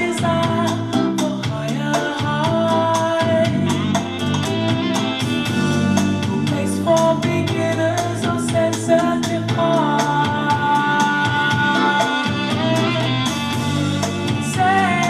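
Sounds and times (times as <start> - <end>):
song through tv speakers: 0.0 - 15.0.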